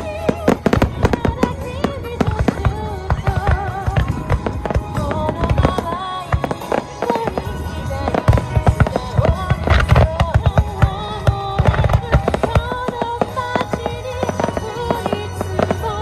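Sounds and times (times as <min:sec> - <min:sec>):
fireworks bangs and crackles: 0:00.0 - 0:16.0
pop song with singer: 0:00.0 - 0:16.0.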